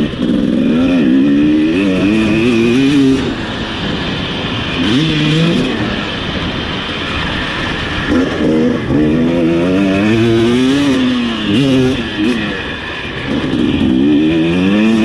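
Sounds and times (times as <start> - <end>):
motocross engine revving: 0.0 - 15.0
steady rushing noise: 0.0 - 15.0.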